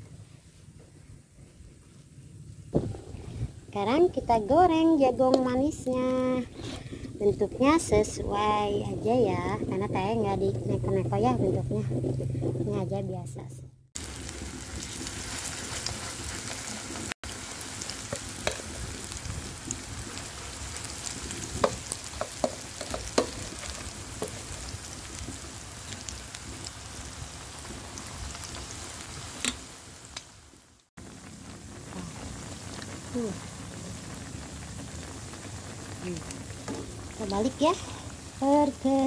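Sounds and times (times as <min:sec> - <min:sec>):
batter sizzling in hot oil: 0:03.6 - 0:12.8, 0:14.0 - 0:39.0.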